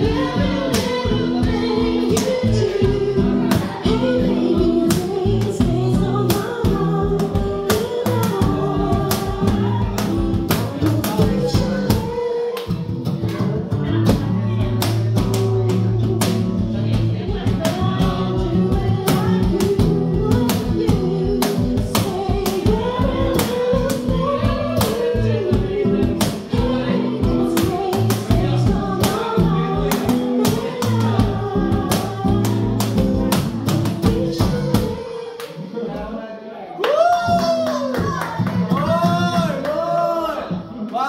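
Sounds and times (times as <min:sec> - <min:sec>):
cajon beat: 0:00.0 - 0:36.1, 0:36.9 - 0:40.8
women singing: 0:00.0 - 0:40.7
acoustic guitar: 0:00.0 - 0:41.0.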